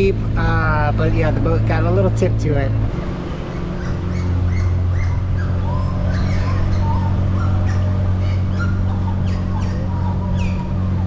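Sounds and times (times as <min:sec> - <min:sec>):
boat motor humming: 0:00.0 - 0:11.0
songbirds chirping: 0:00.0 - 0:11.0.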